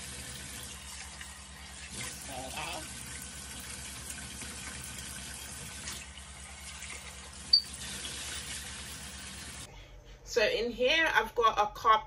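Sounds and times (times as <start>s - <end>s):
grain rinsed in a pot: 0.0s - 9.7s
kitchen tap running: 0.0s - 9.7s.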